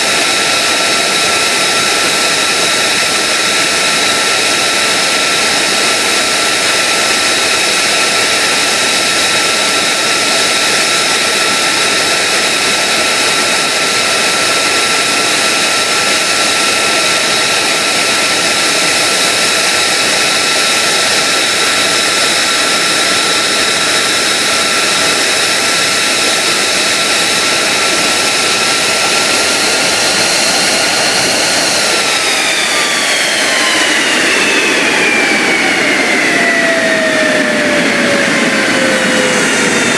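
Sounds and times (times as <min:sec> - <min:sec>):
jet engine high whine: 0:00.0 - 0:39.9.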